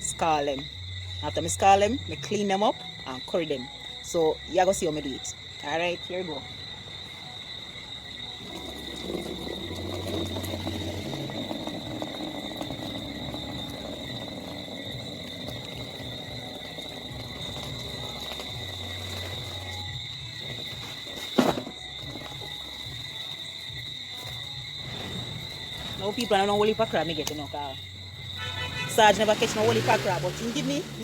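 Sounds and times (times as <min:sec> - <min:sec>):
crickets chirping: 0:00.0 - 0:31.0.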